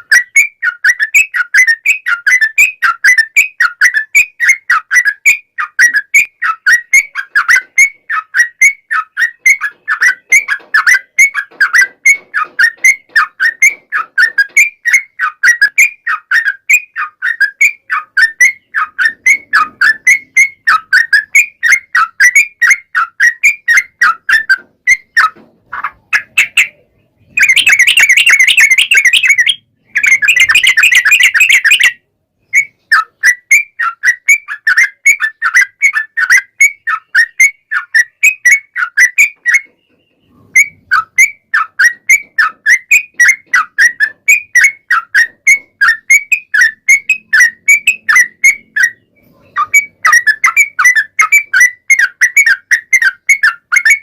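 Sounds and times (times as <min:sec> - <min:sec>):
bird chattering song: 0:00.0 - 0:54.0
fast rolling bird trills: 0:00.0 - 0:54.0.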